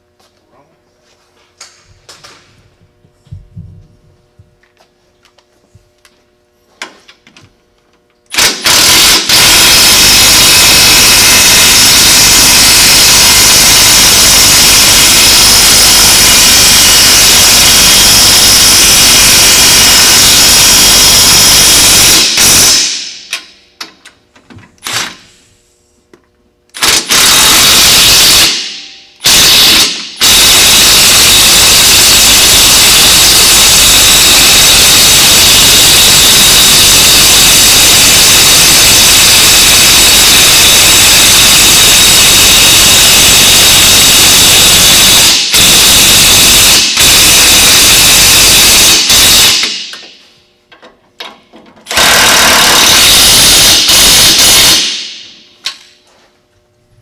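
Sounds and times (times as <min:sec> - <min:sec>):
impact wrench hammering: 0:08.3 - 0:25.3, 0:26.7 - 0:55.8.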